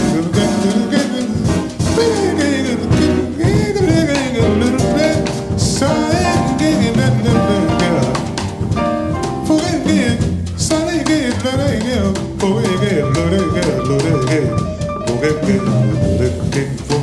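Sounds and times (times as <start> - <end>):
jazz band playing: 0.0 - 17.0
man singing wordless lines: 0.0 - 17.0.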